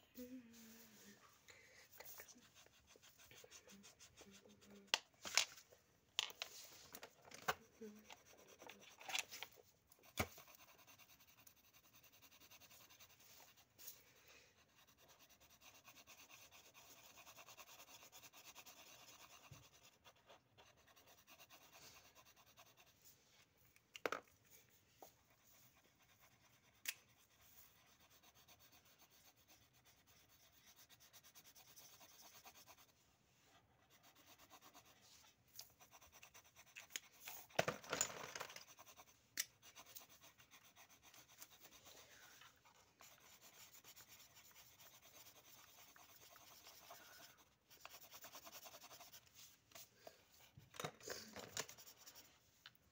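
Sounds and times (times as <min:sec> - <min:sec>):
felt-tip markers scratching on paper: 0:02.0 - 0:05.1, 0:06.3 - 0:23.2, 0:25.0 - 0:33.0, 0:33.7 - 0:50.6, 0:51.3 - 0:52.4.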